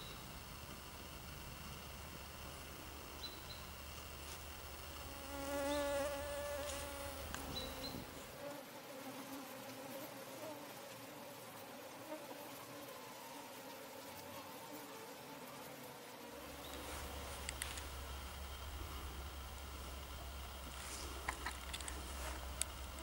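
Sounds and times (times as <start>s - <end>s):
flying insect buzzing: 0.0s - 23.0s.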